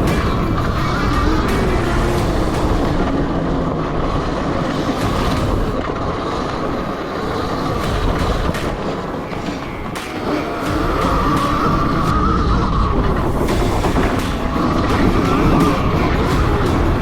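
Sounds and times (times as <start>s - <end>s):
wind and tyres rumbling on dirt: 0.0s - 17.0s.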